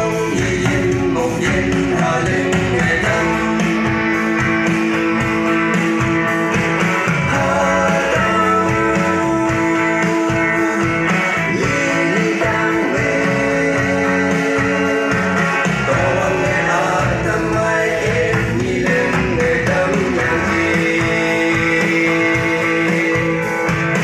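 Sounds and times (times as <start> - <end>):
guitar and steady beat over pa: 0.0 - 24.0
young voices singing: 0.0 - 24.0.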